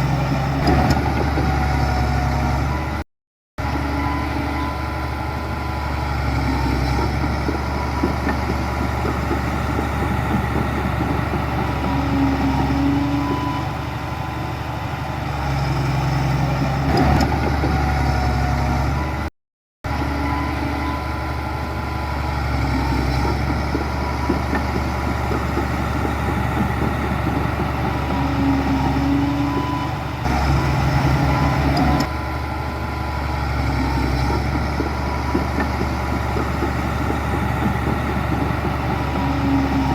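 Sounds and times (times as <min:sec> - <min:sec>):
heavy diesel engine running: 0:00.0 - 0:03.0, 0:03.6 - 0:39.9.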